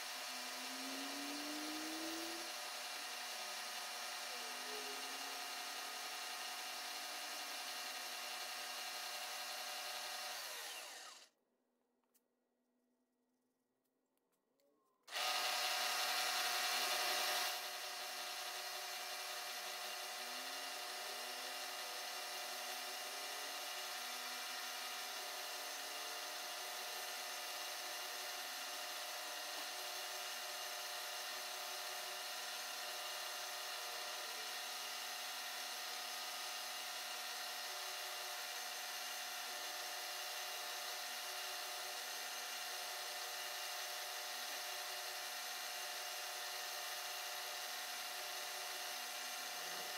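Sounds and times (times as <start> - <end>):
milling machine cutting metal: 0.0 - 11.3, 15.1 - 49.9.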